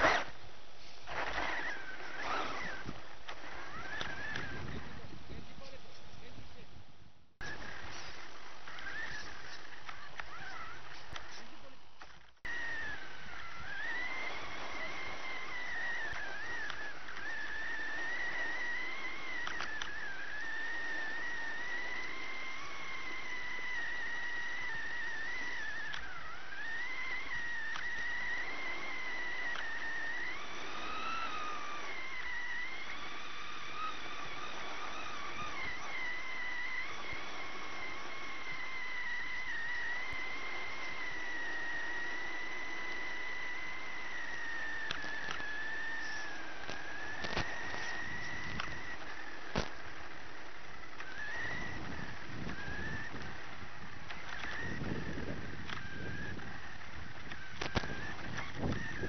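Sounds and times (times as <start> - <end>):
toy truck motor whine: 0.0 - 6.4, 7.4 - 59.0.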